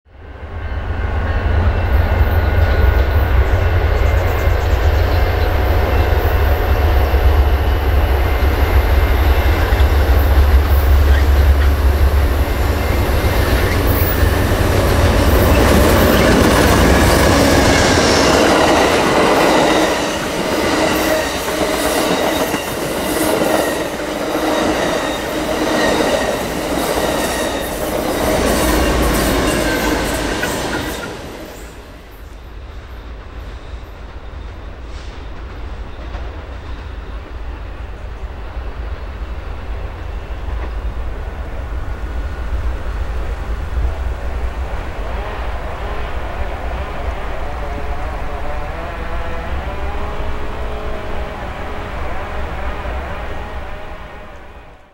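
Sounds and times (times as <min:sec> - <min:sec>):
diesel locomotive engine rumble: 0:00.2 - 0:54.9.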